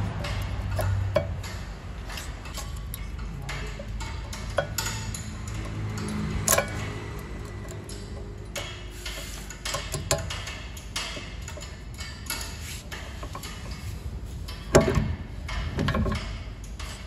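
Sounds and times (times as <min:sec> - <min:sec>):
metallic clicks and clinks of tools: 0:00.0 - 0:14.7.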